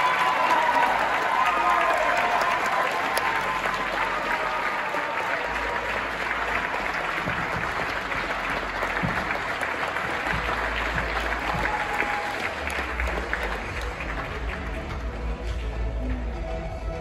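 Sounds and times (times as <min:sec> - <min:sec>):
crowd applauding: 0:00.0 - 0:16.8.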